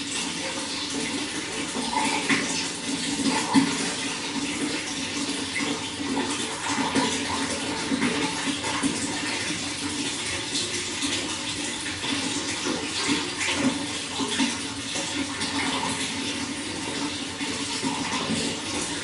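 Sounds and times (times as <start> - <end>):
running water splashing: 0.0 - 19.0.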